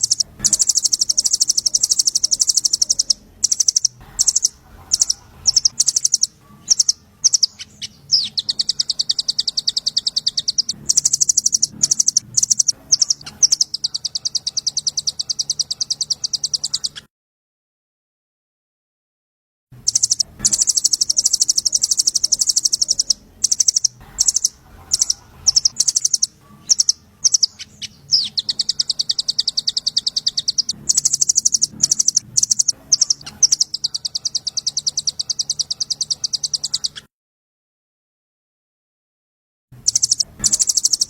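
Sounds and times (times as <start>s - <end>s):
songbird high-pitched trills: 0.0s - 17.1s, 19.8s - 37.0s, 39.8s - 41.0s.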